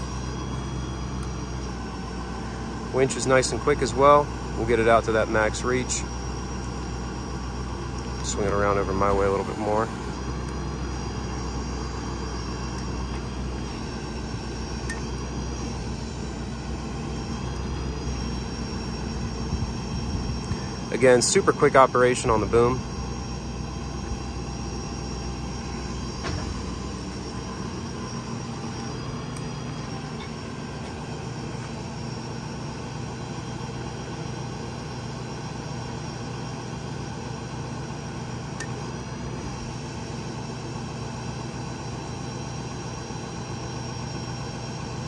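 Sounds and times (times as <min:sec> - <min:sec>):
engine and hydraulic pump hum: 0:00.0 - 0:45.0.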